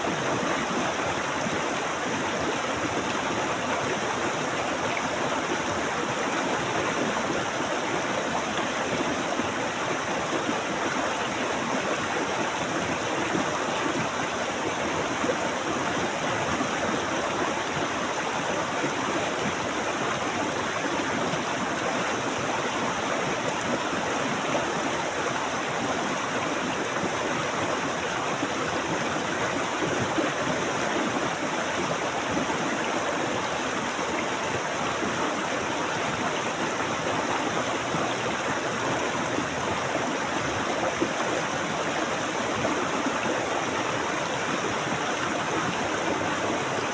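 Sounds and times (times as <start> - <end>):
stream of water flowing: 0.0 - 46.9.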